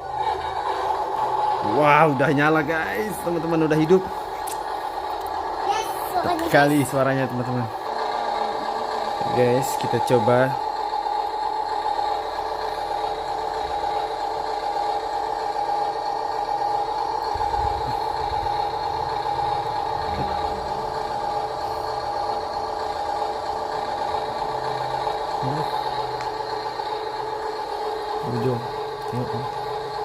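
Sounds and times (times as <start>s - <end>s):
toy truck motor whine: 0.0s - 30.0s.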